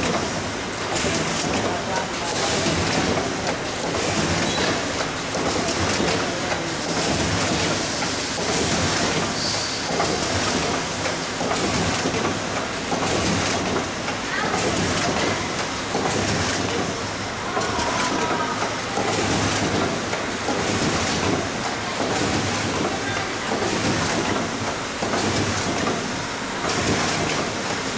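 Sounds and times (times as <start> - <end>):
printing machine running: 0.0 - 27.9.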